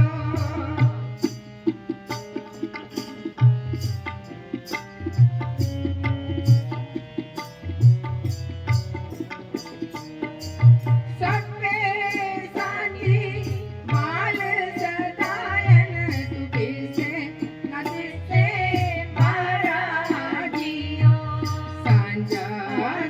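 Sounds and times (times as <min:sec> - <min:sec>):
tabla rhythm: 0:00.0 - 0:23.0.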